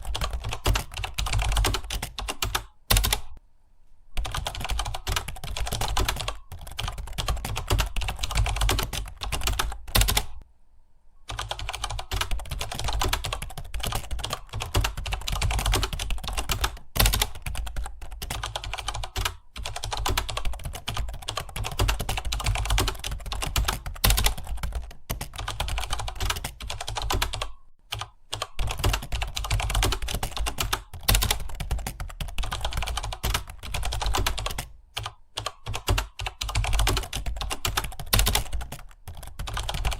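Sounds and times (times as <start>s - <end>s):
fast typing on computer keyboard: 0.0s - 3.4s, 4.2s - 10.4s, 11.3s - 39.9s.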